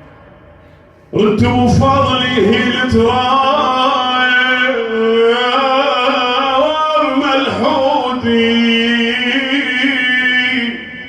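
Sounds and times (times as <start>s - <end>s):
man singing mournful elegy: 1.1s - 11.0s.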